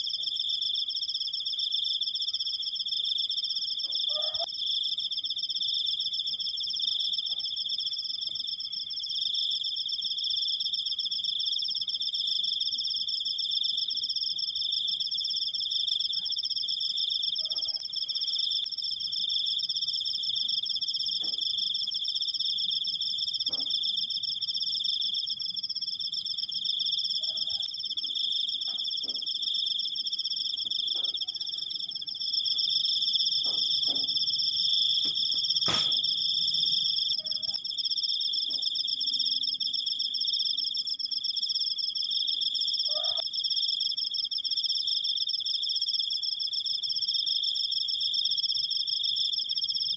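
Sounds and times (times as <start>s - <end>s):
crickets trilling: 0.0s - 49.9s.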